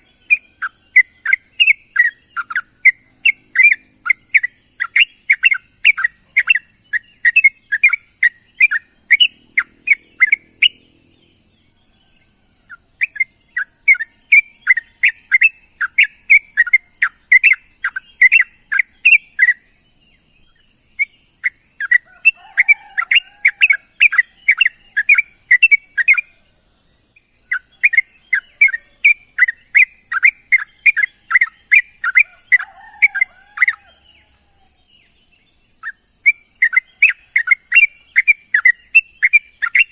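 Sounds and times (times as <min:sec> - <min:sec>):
bird sharp chirps: 0:00.0 - 0:26.4, 0:27.2 - 0:39.9.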